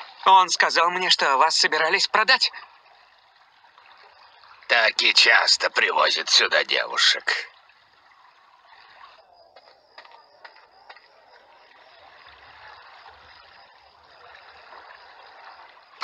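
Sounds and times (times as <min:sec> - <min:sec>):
running and lapping water: 0:00.0 - 0:16.0.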